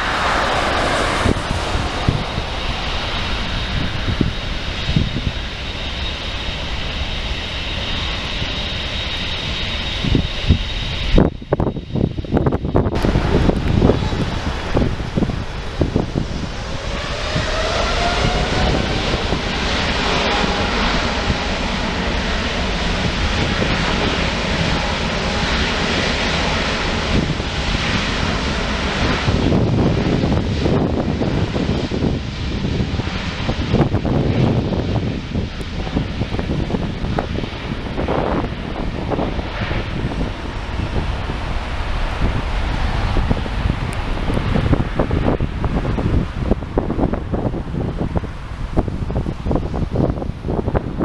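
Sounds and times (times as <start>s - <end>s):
jet engines with high whine: 0.0s - 51.0s.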